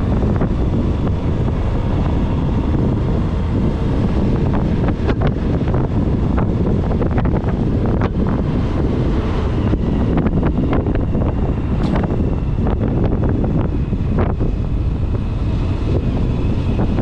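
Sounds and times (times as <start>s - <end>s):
wind buffeting gusts: 0.0s - 17.0s
wind rush on microphone: 0.0s - 17.0s.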